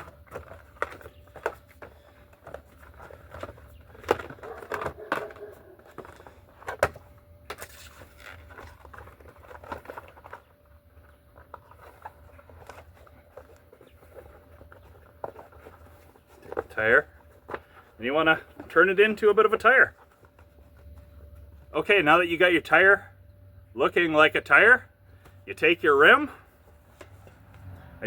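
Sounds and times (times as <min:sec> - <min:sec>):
bicycle tire being handled: 0:00.0 - 0:21.7, 0:26.3 - 0:27.8.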